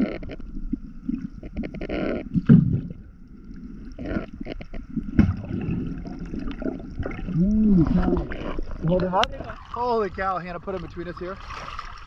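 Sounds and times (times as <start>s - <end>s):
underwater water rushing: 0.0s - 12.0s.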